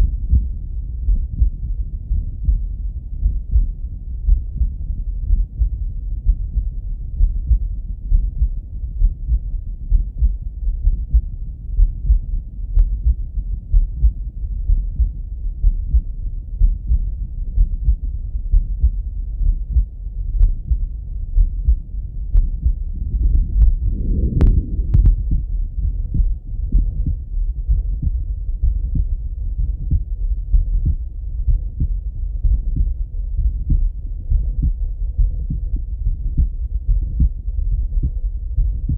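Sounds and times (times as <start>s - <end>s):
heart beating through stethoscope: 0.0s - 38.9s
low muffled rumble: 0.0s - 38.9s.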